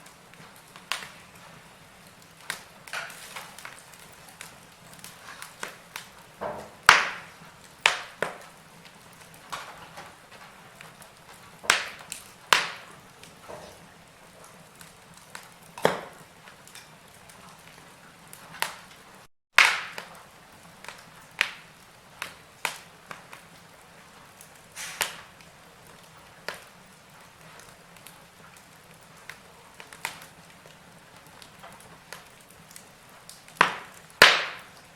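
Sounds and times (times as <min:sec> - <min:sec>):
low fire hiss: 0:00.0 - 0:34.9
wood fire crackling and popping: 0:00.0 - 0:34.9.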